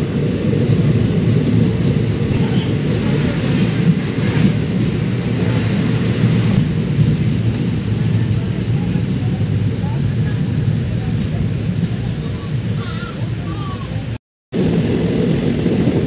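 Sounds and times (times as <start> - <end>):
moving train rumble: 0.0 - 16.0.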